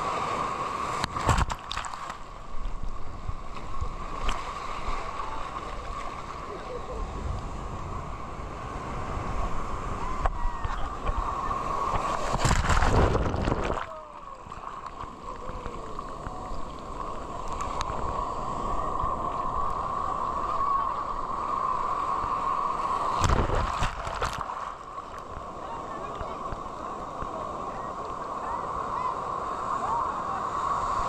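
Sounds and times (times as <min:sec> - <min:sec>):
loud surges of water: 0:00.0 - 0:31.0
muffled sea waves: 0:00.0 - 0:31.0.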